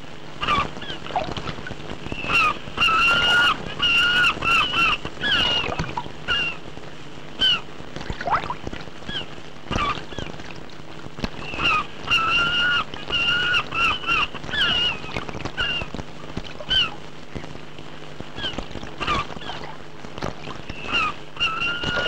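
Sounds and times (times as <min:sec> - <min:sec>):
steady low hum: 0:00.0 - 0:22.0
gulls calling: 0:00.3 - 0:22.0.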